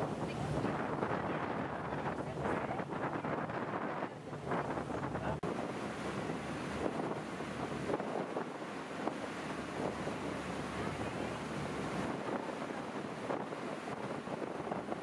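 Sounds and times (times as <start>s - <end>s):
rushing water of boat wake: 0.0s - 15.0s
wind buffeting microphone: 0.0s - 15.0s.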